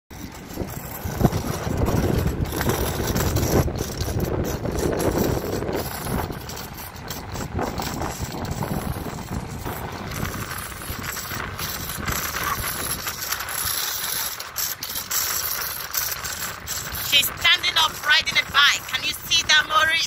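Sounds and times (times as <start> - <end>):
small bicycle rattling and clicking: 0.1 - 20.0
wind rumble on microphone: 0.1 - 20.0.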